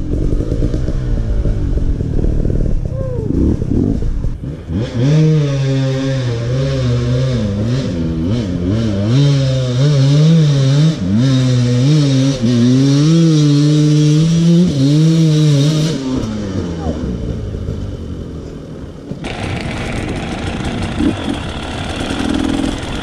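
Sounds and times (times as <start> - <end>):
dirt bike engine running: 0.0 - 16.2, 19.2 - 23.0.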